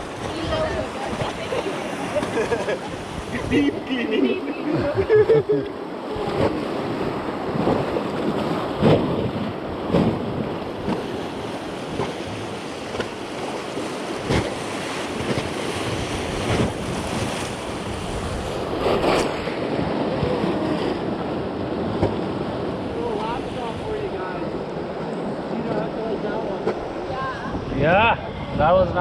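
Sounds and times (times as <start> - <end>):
wind buffeting microphone: 0.0 - 4.0, 4.6 - 29.0
water splashes: 0.0 - 27.7
rushing river water: 0.0 - 29.0.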